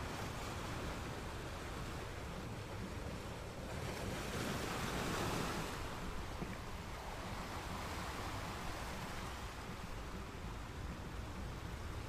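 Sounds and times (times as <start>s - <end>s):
ocean waves washing in: 0.0s - 12.0s.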